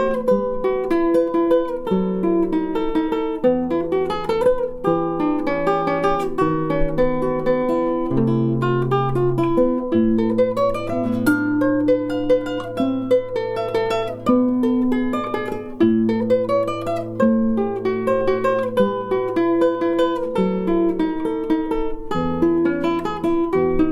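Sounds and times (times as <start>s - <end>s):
solo guitar piece: 0.0s - 23.9s.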